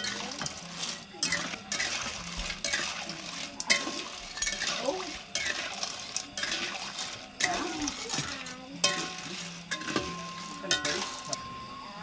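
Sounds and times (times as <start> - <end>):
low background murmur: 0.0 - 12.0
utensils clinking against pots: 0.0 - 12.0.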